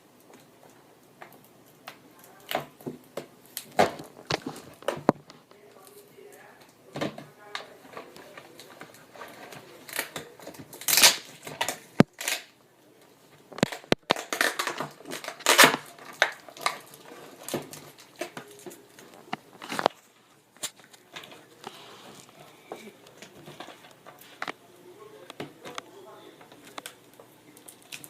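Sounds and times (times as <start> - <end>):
crackling rustling handling noise: 0.0 - 28.0.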